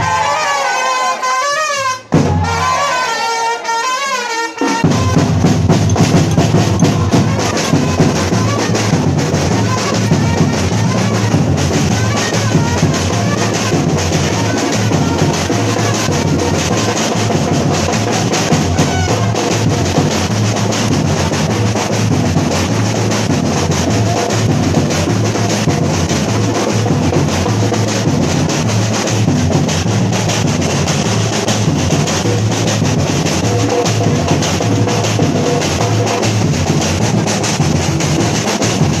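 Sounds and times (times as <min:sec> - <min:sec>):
samba drums and percussion: 0:00.0 - 0:00.7, 0:01.7 - 0:39.0.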